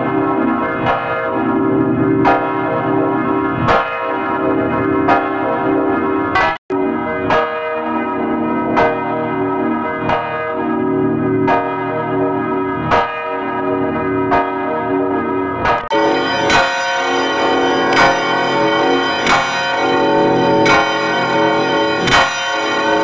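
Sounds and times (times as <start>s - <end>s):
church bell ringing: 0.0s - 23.0s.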